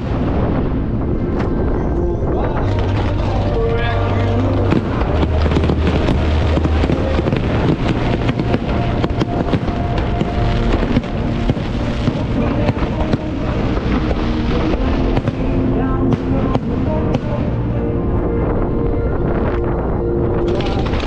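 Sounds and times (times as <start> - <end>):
fireworks bursting and crackling: 0.0 - 17.8, 18.5 - 21.0
music playing: 0.0 - 21.0.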